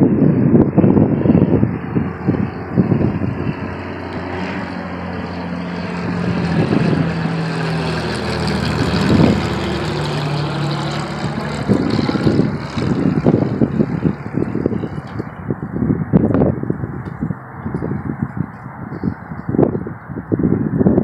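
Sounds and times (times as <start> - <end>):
propeller airplane flying overhead: 0.0 - 21.0.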